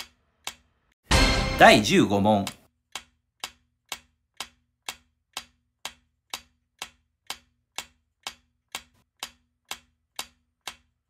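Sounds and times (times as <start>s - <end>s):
clock-like ticking: 0.0s - 11.0s.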